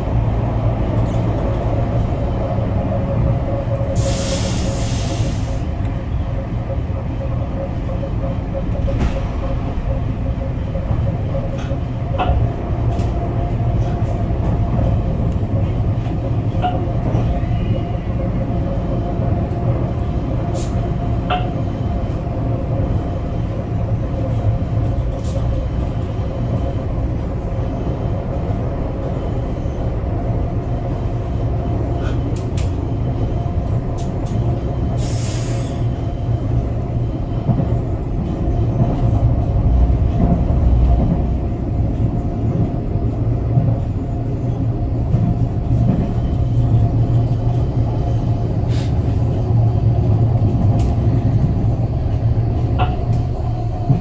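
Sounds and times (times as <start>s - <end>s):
train rumble inside carriage: 0.0s - 54.0s.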